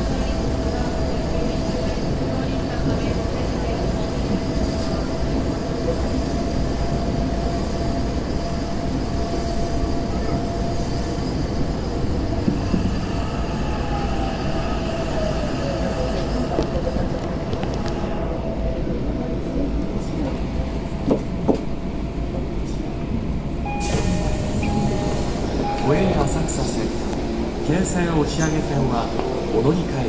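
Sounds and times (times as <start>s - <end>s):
subway train rumble and hum: 0.0s - 30.0s.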